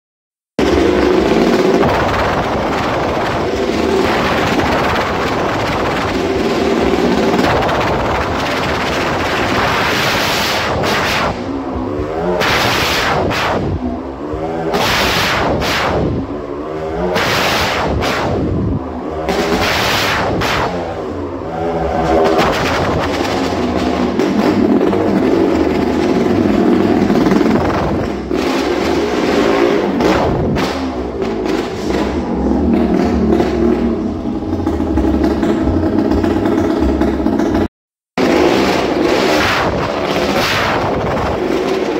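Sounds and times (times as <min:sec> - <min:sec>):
motorcycle engine running hard: 0:00.6 - 0:41.9.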